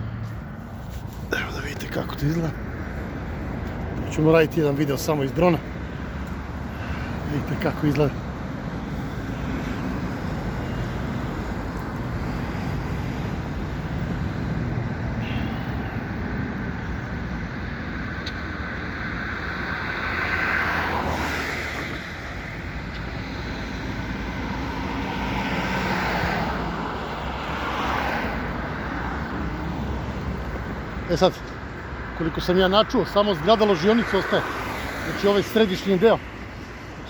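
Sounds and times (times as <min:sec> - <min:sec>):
rumble of road traffic: 0:00.0 - 0:37.0
vehicles passing by: 0:00.0 - 0:37.0.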